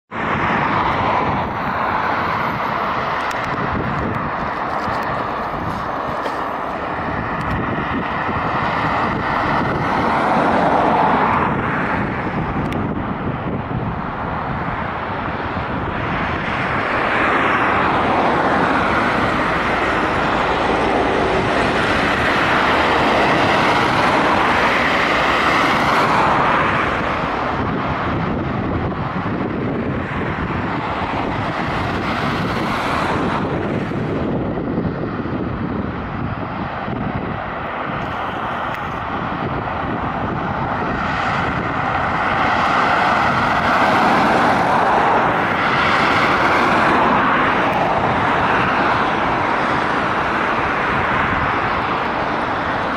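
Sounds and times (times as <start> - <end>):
cars driving past: 0.1 - 52.9.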